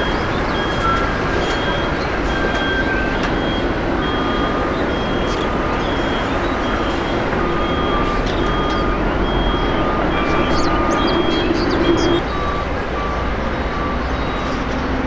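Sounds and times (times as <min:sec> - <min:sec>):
jet engines rumbling: 0:00.0 - 0:15.0
reversing alarm beeping: 0:00.0 - 0:15.0.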